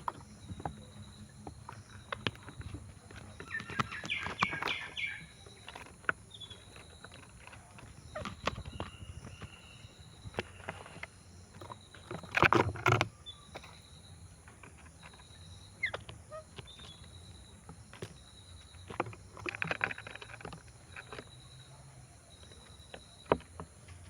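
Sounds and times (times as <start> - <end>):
birds pecking and rustling: 0.0 - 24.0
faint bird chirps: 0.0 - 24.0.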